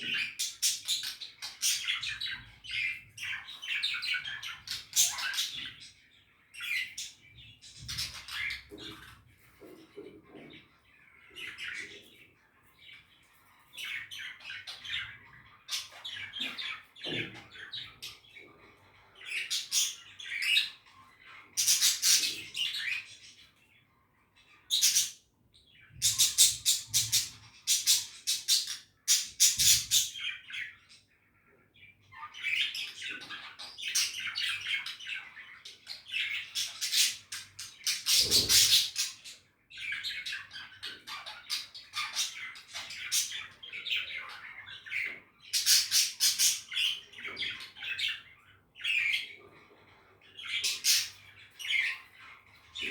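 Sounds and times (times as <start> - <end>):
budgerigars chattering and chirping: 0.0 - 23.7, 24.4 - 52.9.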